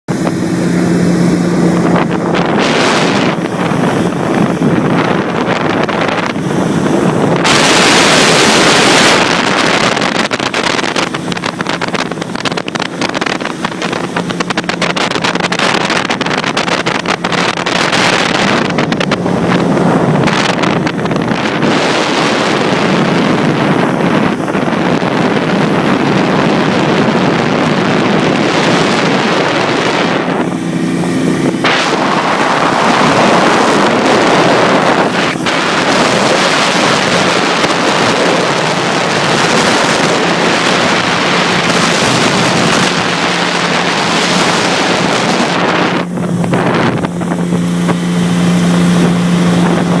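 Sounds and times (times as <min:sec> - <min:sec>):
motorboat engine humming: 0:00.1 - 0:50.0
wind noise on microphone: 0:00.1 - 0:50.0.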